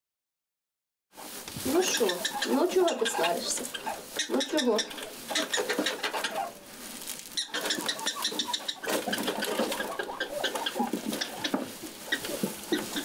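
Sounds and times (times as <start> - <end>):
prairie dog chirping barks: 1.7 - 6.6, 7.3 - 13.0.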